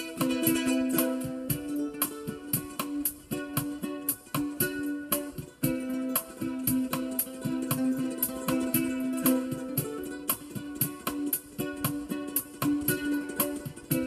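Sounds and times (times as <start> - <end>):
percussive hits: 0.0 - 14.0
plucked guitar notes: 0.0 - 14.0.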